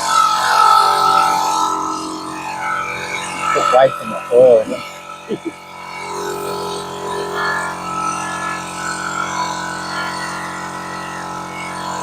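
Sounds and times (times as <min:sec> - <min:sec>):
fluctuating higher whirr: 0:00.0 - 0:12.0
steady mechanical drone: 0:00.0 - 0:12.0.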